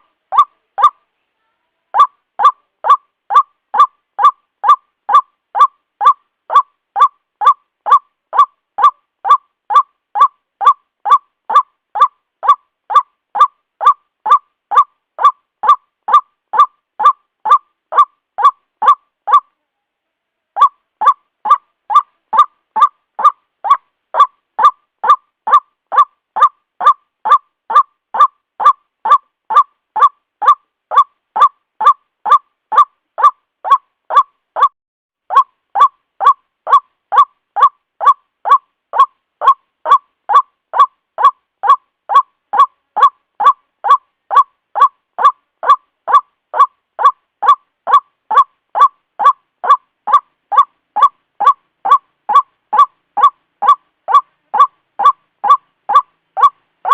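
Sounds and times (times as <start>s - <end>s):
waterhen calling harsh notes: 0.0s - 1.0s, 2.0s - 19.5s, 20.6s - 34.7s, 35.3s - 56.9s.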